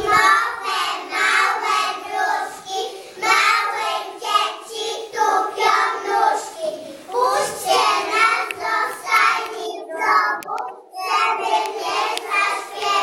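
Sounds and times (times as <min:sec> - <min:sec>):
young children singing: 0:00.0 - 0:13.0.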